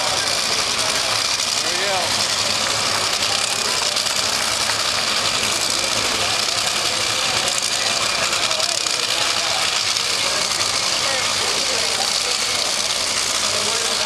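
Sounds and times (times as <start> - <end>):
racing car engines idling: 0.0 - 14.0.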